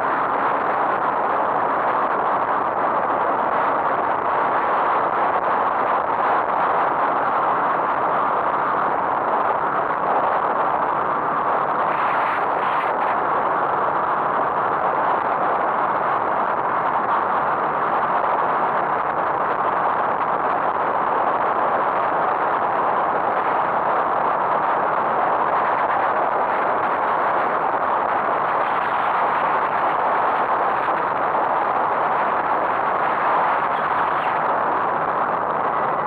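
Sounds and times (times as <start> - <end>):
vehicle road and wind noise: 0.0 - 36.0.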